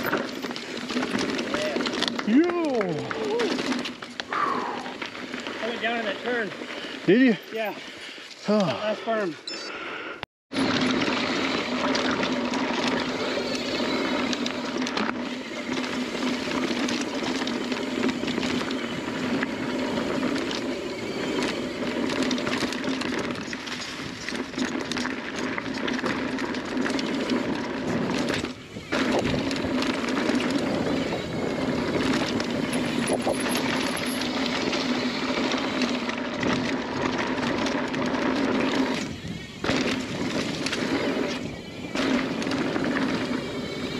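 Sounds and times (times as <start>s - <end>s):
bike rattling and knocking: 0.0s - 7.8s, 10.5s - 43.9s
bike tyres on dirt: 0.0s - 9.6s, 10.5s - 43.9s.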